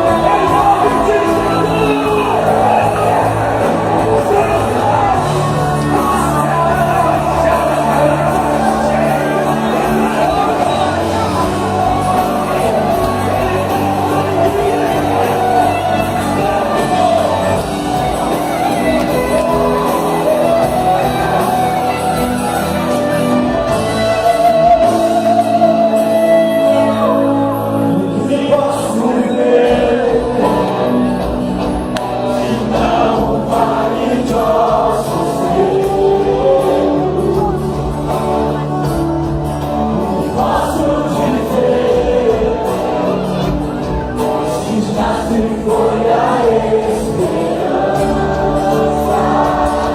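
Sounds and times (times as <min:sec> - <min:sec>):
gospel band with singing: 0:00.0 - 0:49.9.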